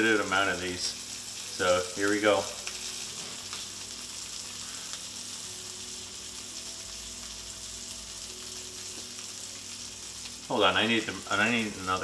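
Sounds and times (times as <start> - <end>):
butter sizzling in a skillet: 0.0 - 12.0.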